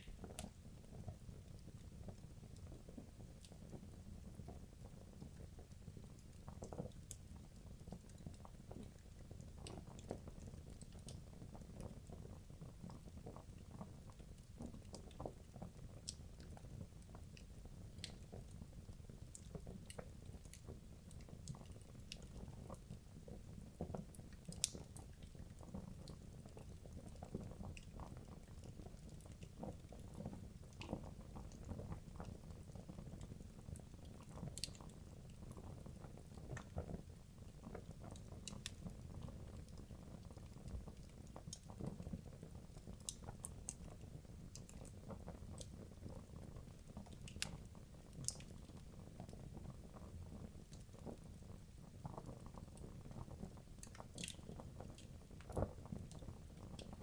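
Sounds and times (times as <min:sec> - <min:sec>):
wood crackling and popping: 0:00.0 - 0:57.0.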